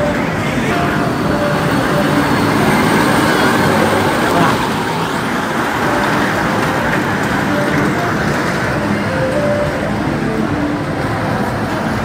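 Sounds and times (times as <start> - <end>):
kiddie train ride rumbling: 0.0 - 12.0.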